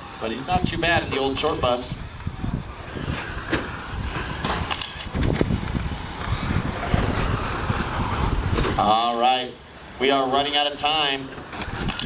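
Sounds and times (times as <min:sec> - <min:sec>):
rc trucks rumbling: 0:00.0 - 0:12.0.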